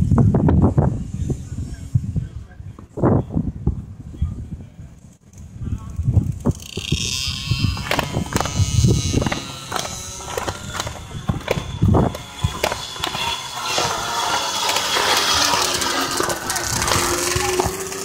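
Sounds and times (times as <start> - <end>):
pocket bike engines whining: 0.0 - 4.1, 4.8 - 18.0
wind on microphone: 0.0 - 18.0.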